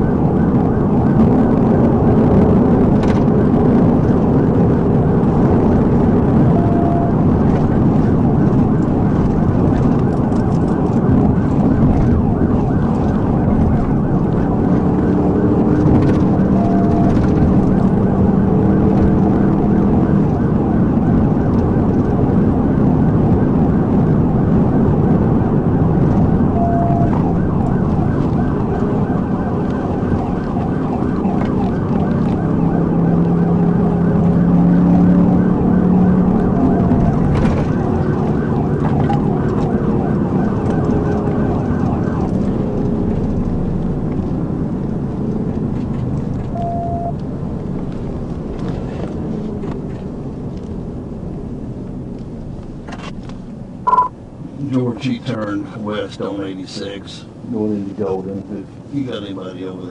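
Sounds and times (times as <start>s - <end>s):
police siren wailing: 0.0s - 50.0s
engine and road noise: 0.0s - 59.9s.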